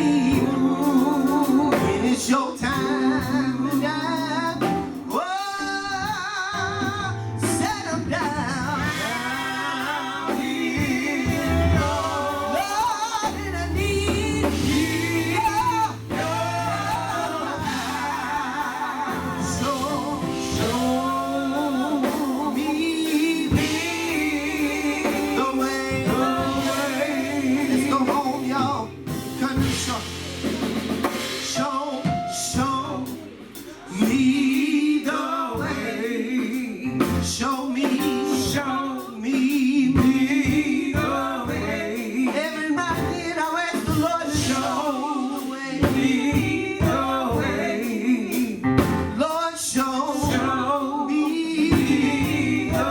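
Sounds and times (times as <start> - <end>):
band with guitar and drums: 0.0 - 52.9
man singing gospel: 0.0 - 52.9.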